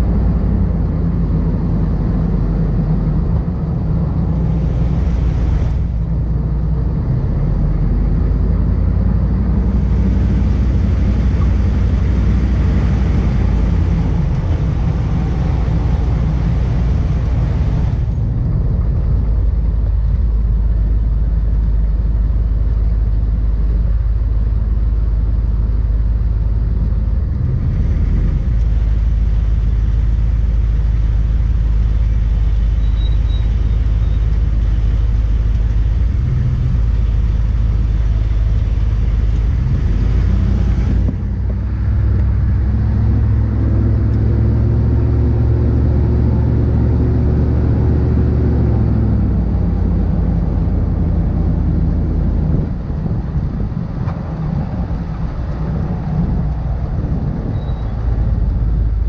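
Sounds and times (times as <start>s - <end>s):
motor vehicle rumbling: 0.0s - 59.0s.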